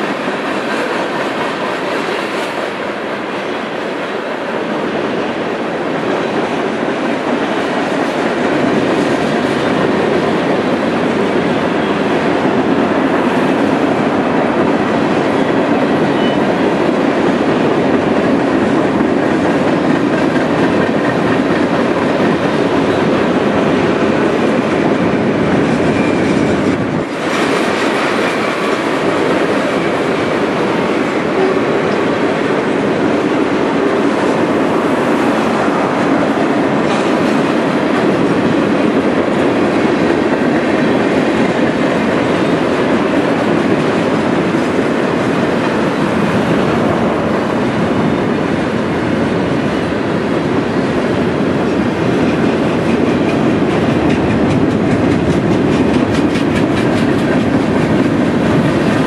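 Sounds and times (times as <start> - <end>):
steel wheels on rails: 0.0 - 59.0.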